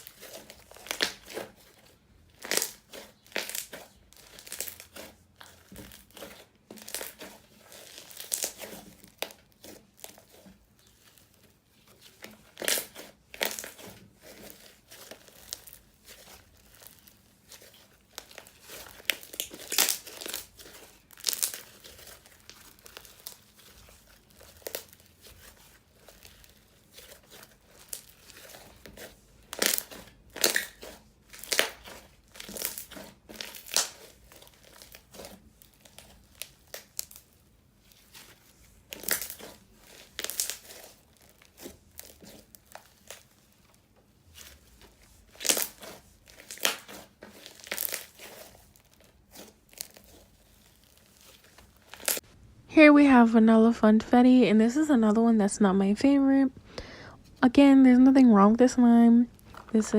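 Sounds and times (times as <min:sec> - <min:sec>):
crunchy slime crackling: 0:00.0 - 0:52.5, 0:58.6 - 0:59.9.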